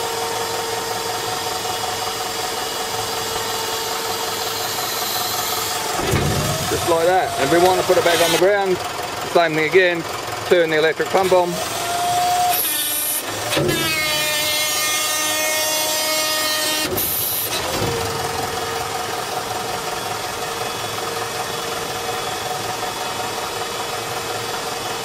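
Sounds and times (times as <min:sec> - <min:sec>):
electric hydraulic pump whining: 0:00.0 - 0:25.0.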